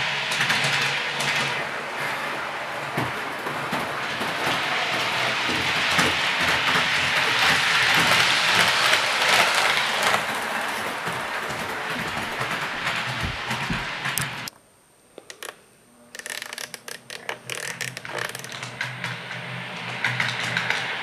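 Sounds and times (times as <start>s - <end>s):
model train wheels rattling: 0.3s - 14.5s, 16.2s - 21.0s.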